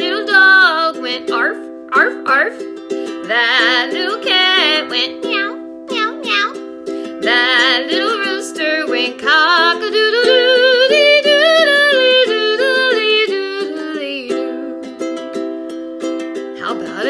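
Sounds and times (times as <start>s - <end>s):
woman singing folk song: 0.0s - 5.8s, 6.7s - 15.6s, 16.4s - 17.0s
strummed ukulele chords: 0.0s - 17.0s.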